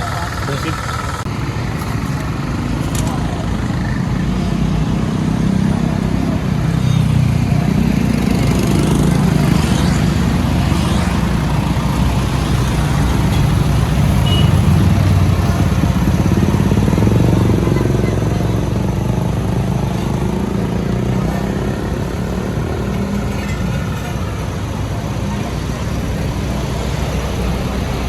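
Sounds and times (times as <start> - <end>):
diesel engine under load: 0.0 - 28.0.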